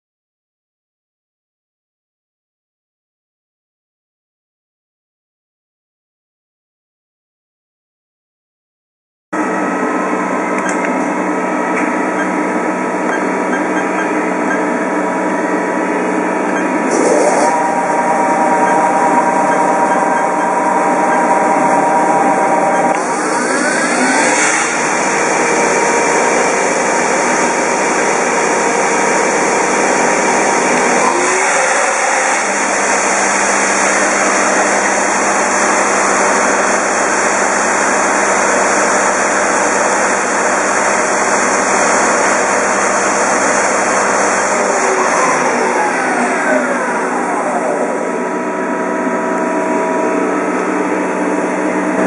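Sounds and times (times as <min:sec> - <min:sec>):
lathe spindle whining: 0:09.4 - 0:52.0.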